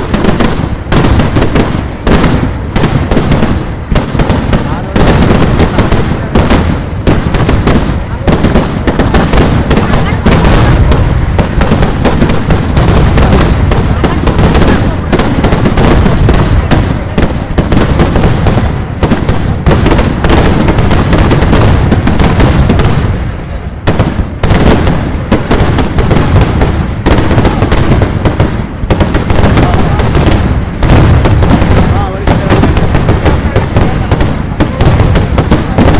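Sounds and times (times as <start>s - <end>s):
fireworks exploding: 0.0s - 35.9s.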